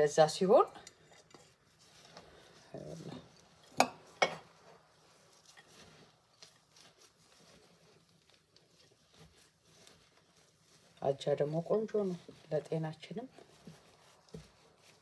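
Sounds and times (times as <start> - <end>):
dry rustling of crumbs in bowl: 0.0 - 15.0.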